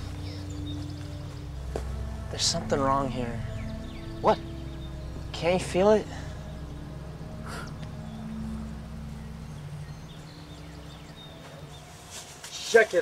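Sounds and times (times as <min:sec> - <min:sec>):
low ominous droning tones: 0:00.0 - 0:12.4.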